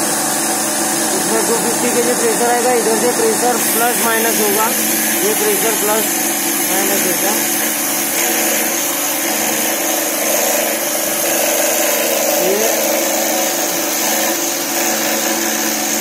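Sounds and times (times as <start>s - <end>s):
pressure washer motor and pump running: 0.0s - 16.0s.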